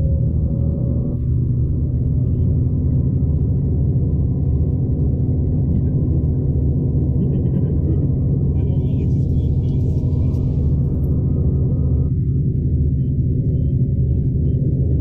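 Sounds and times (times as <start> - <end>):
train rumbling on tracks: 0.0 - 15.0.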